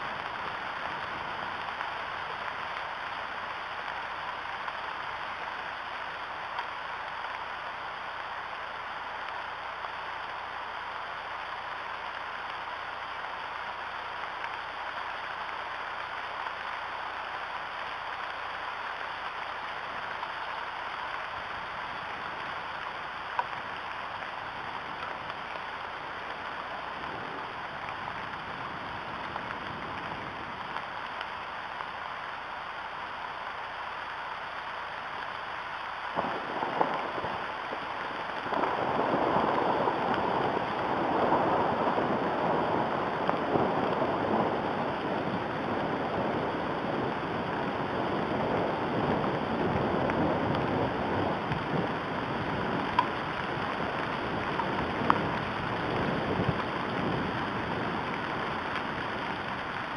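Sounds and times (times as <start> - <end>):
sharp taps of raindrops: 0.0 - 59.9
steady rain on trees: 0.0 - 59.9.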